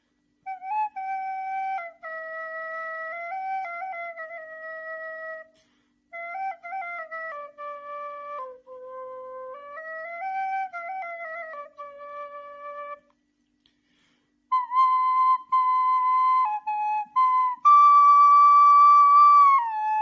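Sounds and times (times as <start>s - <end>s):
flute melody: 0.4s - 13.1s, 14.5s - 20.0s.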